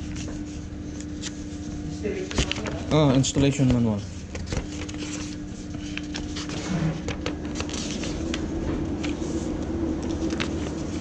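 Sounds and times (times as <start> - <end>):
low machinery hum: 0.0 - 11.0
paper pages rustling: 0.0 - 11.0.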